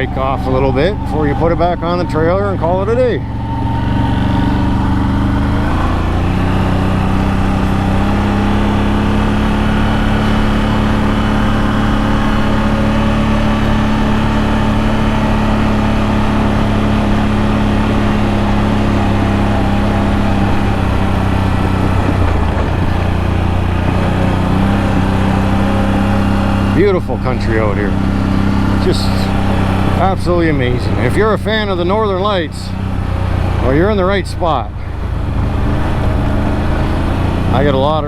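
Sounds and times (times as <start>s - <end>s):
atv engine running: 0.0s - 38.0s.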